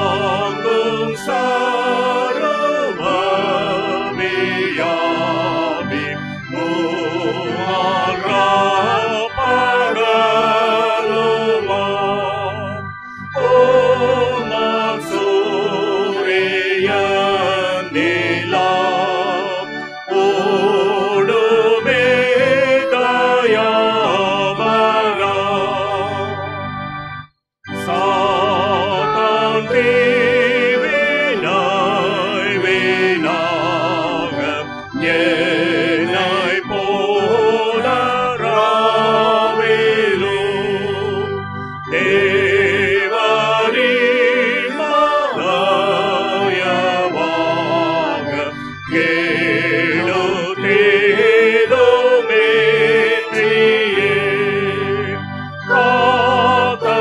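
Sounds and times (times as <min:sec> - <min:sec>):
people singing a hymn: 0:00.0 - 0:26.6, 0:27.7 - 0:57.0
keyboard chords: 0:00.0 - 0:57.0.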